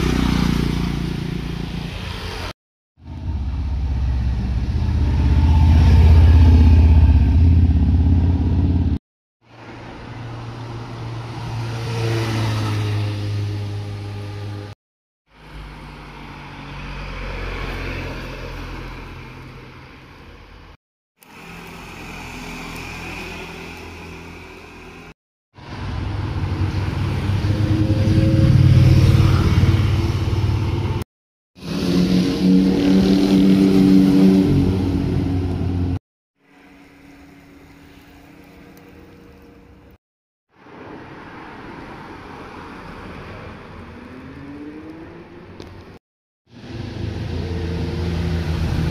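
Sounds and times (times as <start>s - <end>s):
motorcycles passing and revving: 0.0s - 40.0s, 40.6s - 48.9s.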